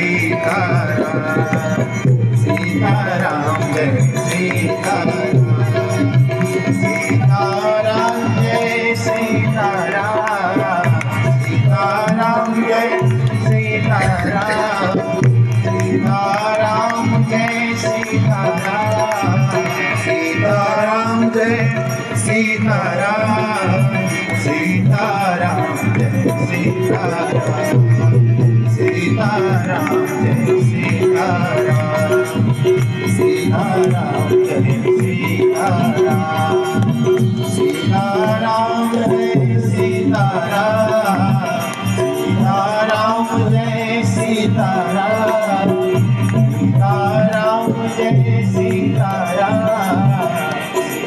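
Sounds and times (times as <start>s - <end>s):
tabla playing a steady rhythm: 0.0s - 51.0s.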